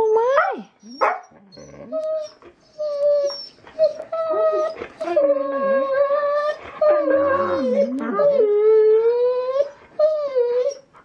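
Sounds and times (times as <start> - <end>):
dog howling: 1.5 - 10.8.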